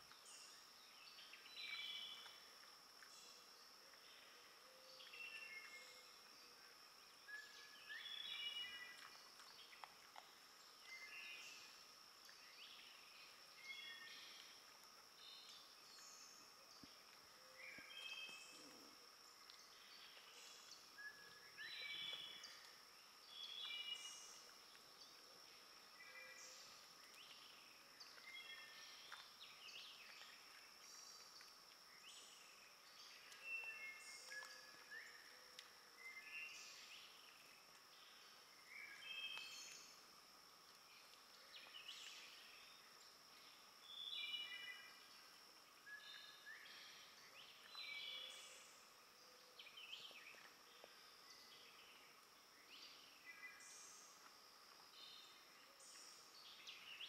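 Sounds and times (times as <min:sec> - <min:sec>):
woodland birdsong: 0:00.0 - 0:40.0, 0:40.6 - 0:57.0.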